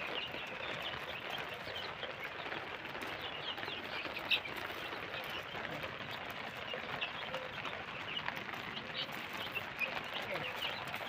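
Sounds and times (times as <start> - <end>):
chickens chirping and peeping: 0.0 - 11.0.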